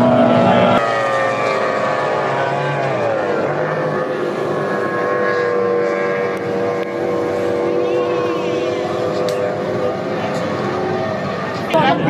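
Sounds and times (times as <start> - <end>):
outboard engines whining: 0.0 - 12.0.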